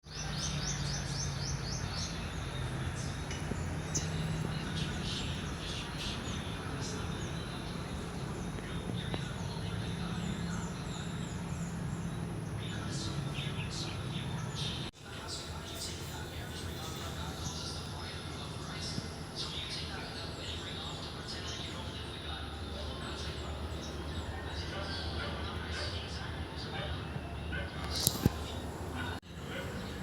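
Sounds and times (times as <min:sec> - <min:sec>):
small birds chirping: 0:00.0 - 0:30.0
steady low hum: 0:00.1 - 0:30.0.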